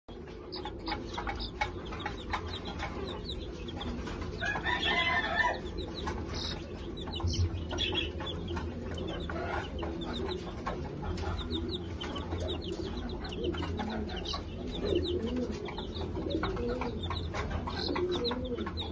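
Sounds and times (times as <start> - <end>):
baby chicks peeping: 0.1 - 18.9
chicken clucking: 0.1 - 18.9.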